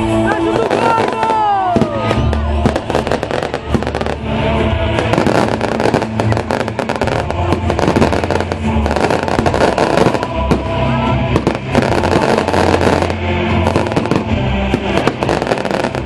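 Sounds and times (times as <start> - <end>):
festival music: 0.0 - 16.0
firecrackers popping: 0.0 - 16.0.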